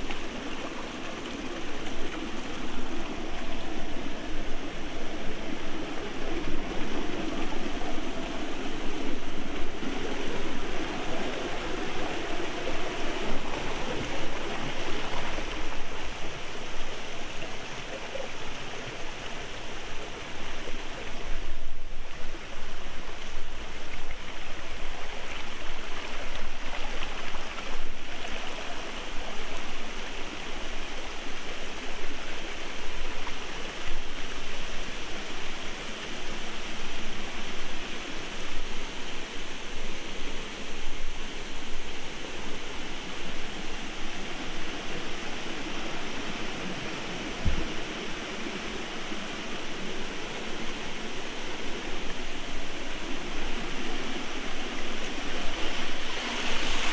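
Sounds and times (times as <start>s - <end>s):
stream running over rocks: 0.0s - 56.9s.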